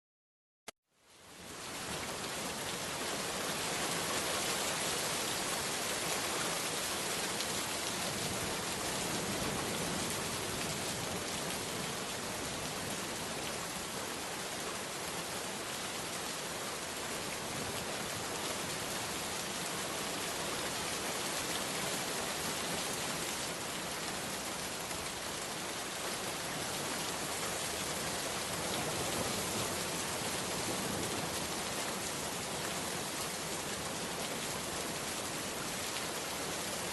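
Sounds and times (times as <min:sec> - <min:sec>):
steady rain hissing: 0:00.9 - 0:36.9.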